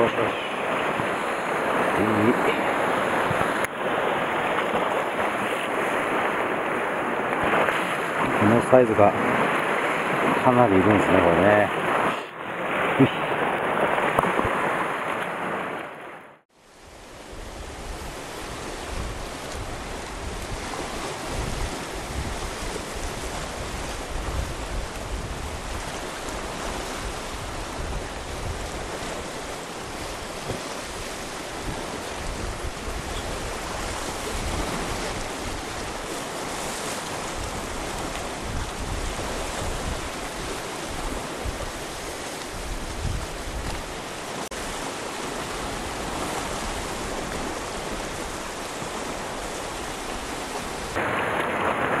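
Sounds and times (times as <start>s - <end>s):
wind gusting on microphone: 0.0s - 16.0s, 16.7s - 52.0s
surf washing against rocks: 0.0s - 52.0s.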